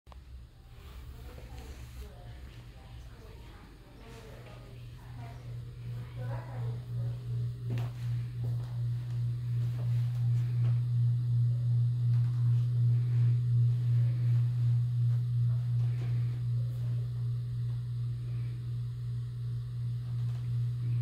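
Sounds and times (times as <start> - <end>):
low throbbing hum: 0.1 - 21.0.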